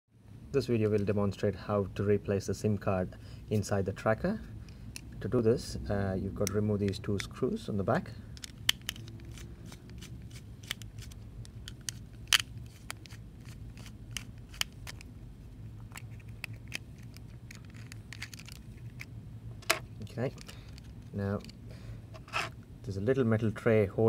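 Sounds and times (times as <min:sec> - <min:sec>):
low steady hum: 0:00.2 - 0:24.0.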